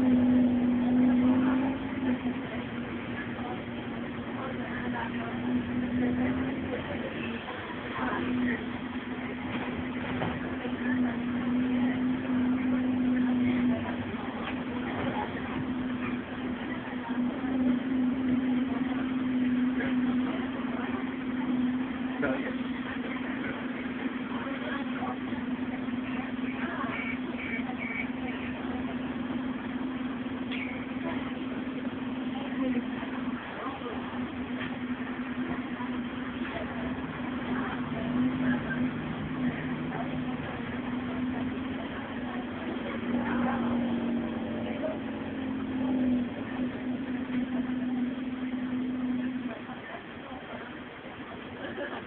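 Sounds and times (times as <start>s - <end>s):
bus diesel engine droning: 0.0s - 52.0s
road and cabin noise: 0.0s - 52.0s.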